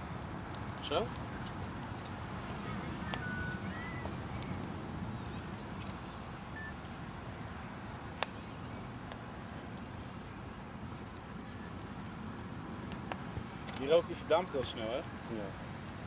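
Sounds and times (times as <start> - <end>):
fire crackling and popping: 0.0 - 16.0
fire rushing: 0.0 - 16.0.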